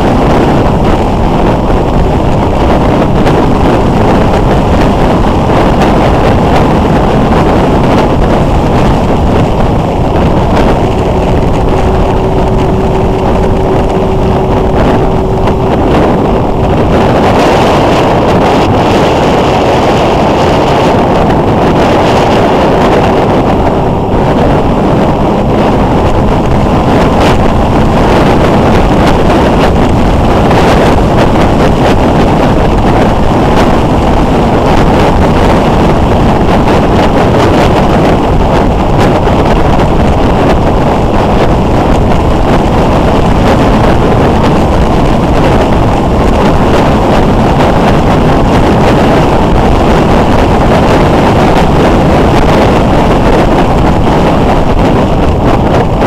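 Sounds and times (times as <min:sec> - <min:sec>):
motorcycle running: 0:00.0 - 0:56.0
wind rush on microphone: 0:00.0 - 0:56.0.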